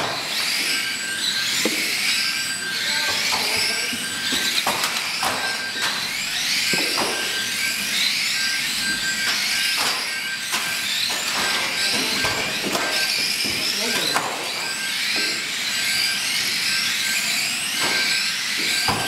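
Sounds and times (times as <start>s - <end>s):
toy car motors whining: 0.0s - 19.0s.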